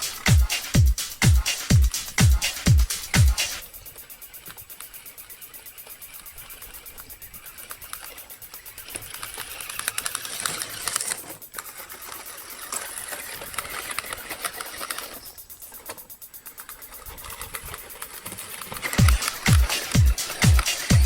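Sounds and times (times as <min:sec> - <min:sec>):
electric motors and gears whirring: 0:00.0 - 0:21.0
gear teeth clatter: 0:00.0 - 0:21.0.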